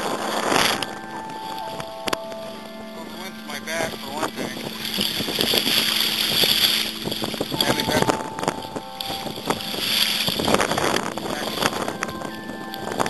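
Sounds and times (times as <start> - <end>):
water splashing around a kayak: 0.0 - 13.0
wind buffeting microphone: 0.0 - 13.0.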